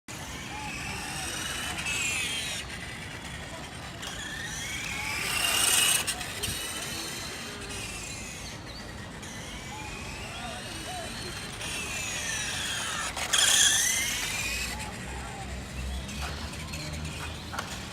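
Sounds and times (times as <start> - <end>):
small electric motor whine: 0.1 - 17.9.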